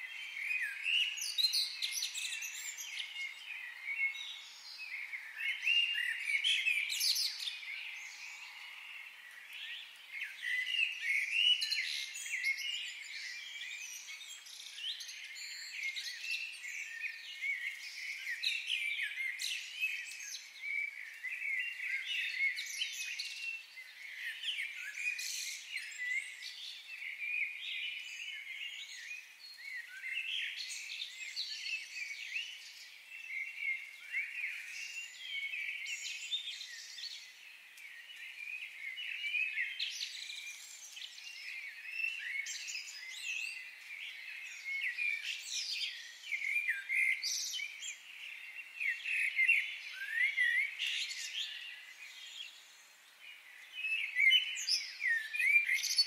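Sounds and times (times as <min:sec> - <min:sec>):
many birds chirping: 0:00.0 - 0:56.0.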